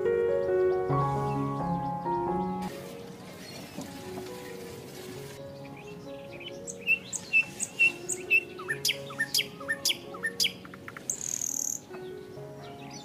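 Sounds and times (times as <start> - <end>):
small birds chirping: 0.0 - 13.0
soft background music: 0.0 - 13.0.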